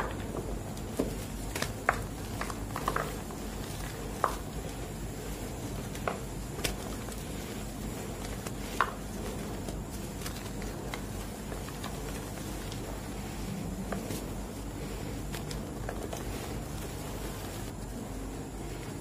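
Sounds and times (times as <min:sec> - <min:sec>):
hands crumbling chalk: 0:00.0 - 0:17.7.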